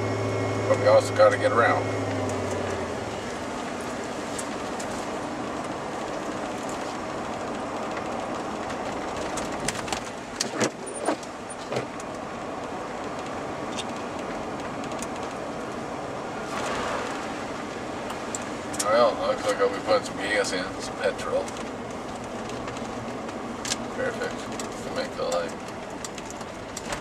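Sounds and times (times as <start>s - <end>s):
truck cab road and engine noise: 0.0s - 27.0s.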